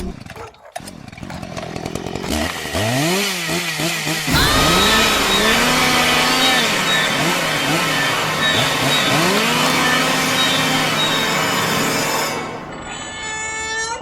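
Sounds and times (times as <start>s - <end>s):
chainsaw engine revving: 0.0s - 12.9s.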